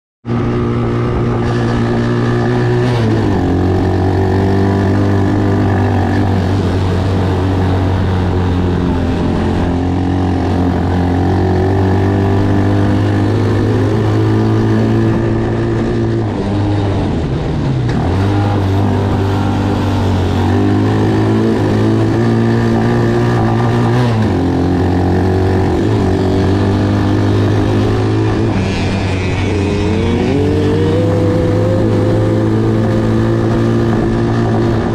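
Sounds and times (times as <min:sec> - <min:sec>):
atv engine revving: 0:00.2 - 0:34.9.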